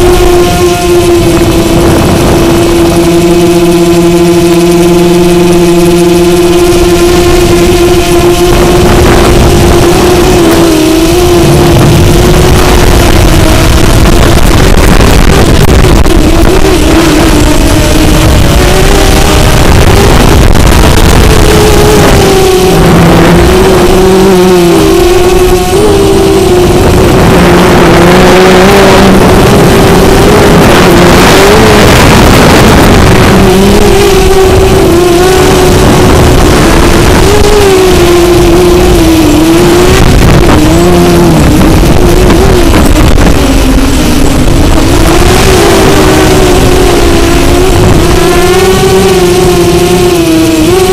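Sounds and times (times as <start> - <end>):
drone propellers whining: 0.0 - 50.9
wind rushing across microphone: 0.0 - 50.9.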